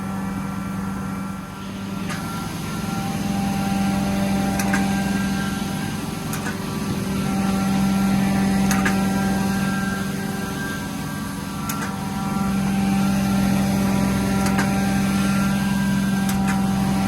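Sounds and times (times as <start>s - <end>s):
carpet cleaning machine humming: 0.0s - 17.0s.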